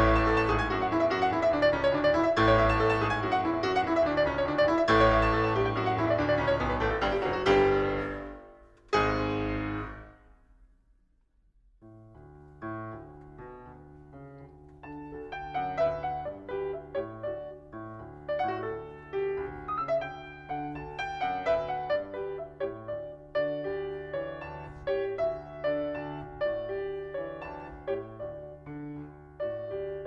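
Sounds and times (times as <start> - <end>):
solo piano music: 0.0 - 10.4, 11.8 - 30.0.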